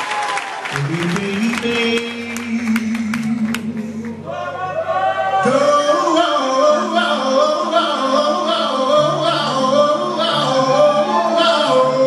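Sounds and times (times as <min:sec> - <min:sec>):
solo voice singing: 0:00.7 - 0:04.6, 0:05.2 - 0:12.0.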